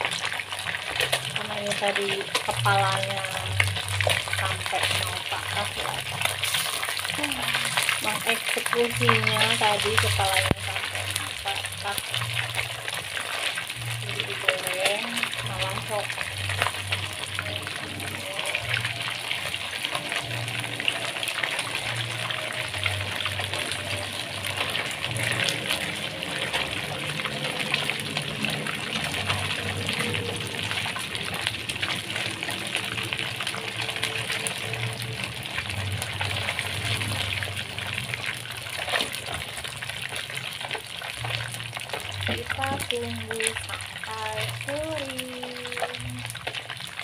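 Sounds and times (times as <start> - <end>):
fish deep-frying in hot oil: 0.0 - 47.0.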